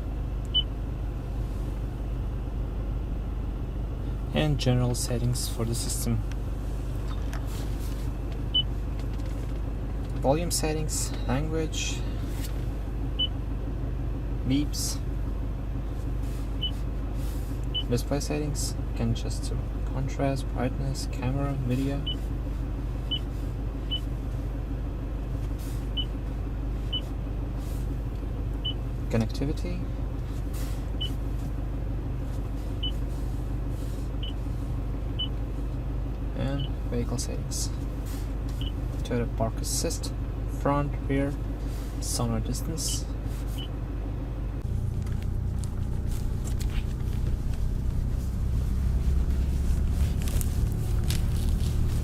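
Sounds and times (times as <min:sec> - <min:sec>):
low car cabin hum: 0:00.0 - 0:52.0.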